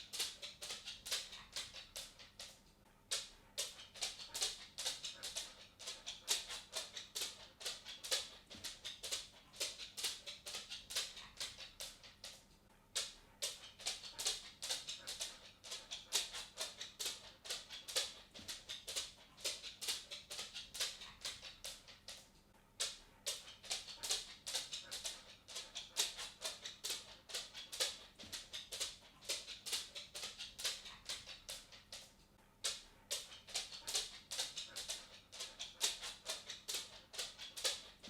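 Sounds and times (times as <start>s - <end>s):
cat claws ticking on hard floor: 0.0s - 38.0s.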